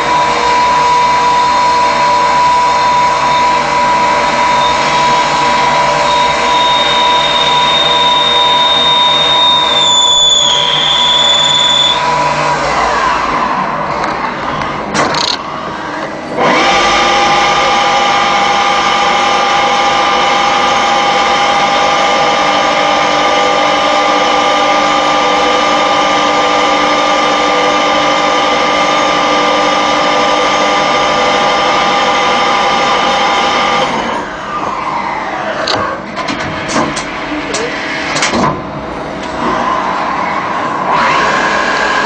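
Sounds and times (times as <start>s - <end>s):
lathe spindle whining: 0.0s - 36.0s.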